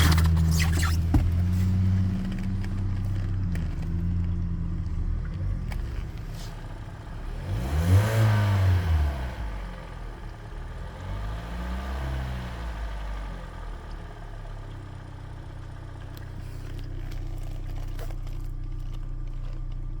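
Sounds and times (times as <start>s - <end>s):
car engine idling and revving: 0.0s - 20.0s
engine ticking: 0.0s - 20.0s.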